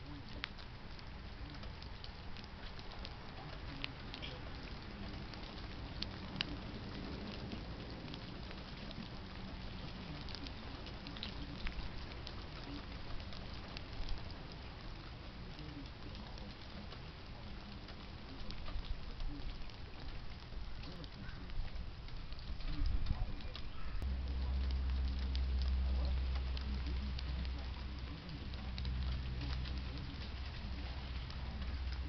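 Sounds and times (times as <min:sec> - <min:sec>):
light rain pattering: 0:00.0 - 0:32.0
steady low rumble: 0:00.0 - 0:32.0.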